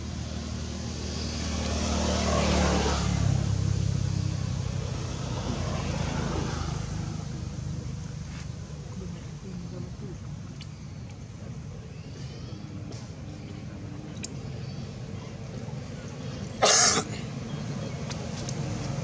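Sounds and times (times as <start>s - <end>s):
vehicle passing by: 0.0s - 10.6s, 12.9s - 19.0s.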